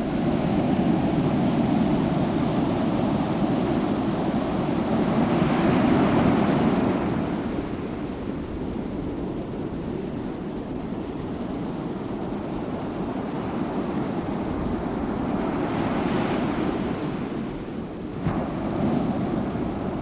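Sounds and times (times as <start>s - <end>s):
sea waves breaking: 0.0s - 9.4s, 12.5s - 20.0s.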